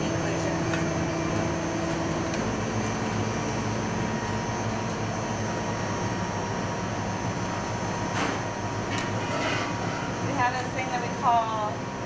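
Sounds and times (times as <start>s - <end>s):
machine mechanical hum: 0.0s - 12.0s.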